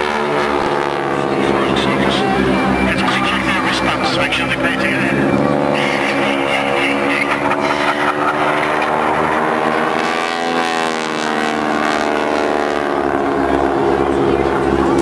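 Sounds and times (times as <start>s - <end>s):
propeller planes droning: 0.0s - 15.0s.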